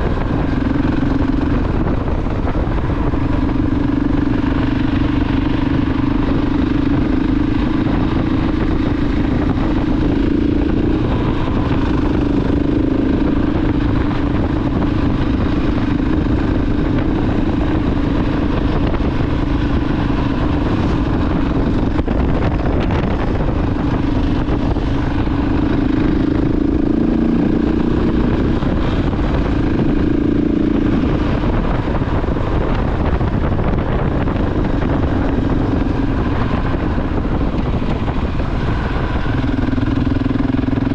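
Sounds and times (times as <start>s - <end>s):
motorcycle engine cruising: 0.0s - 40.9s
road noise: 0.0s - 40.9s
wind noise: 0.0s - 40.9s.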